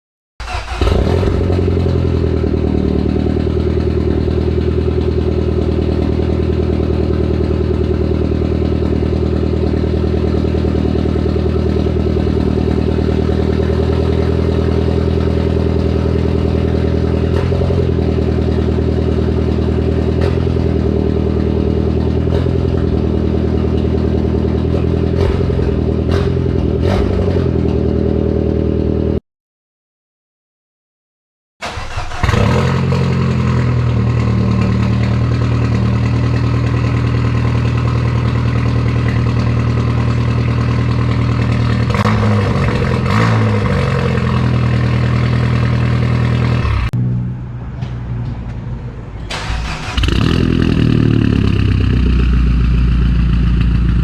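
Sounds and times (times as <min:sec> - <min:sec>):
car engine idling: 0:00.4 - 0:26.9, 0:31.6 - 0:47.0, 0:49.1 - 0:54.0.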